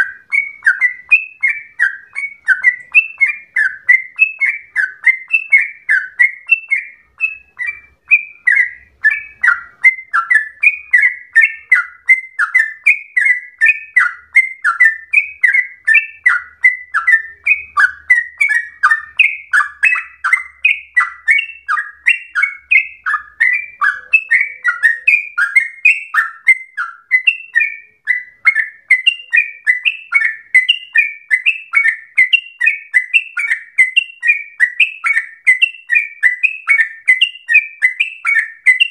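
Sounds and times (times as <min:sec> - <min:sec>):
bird whistling descending notes: 0:00.0 - 0:38.9.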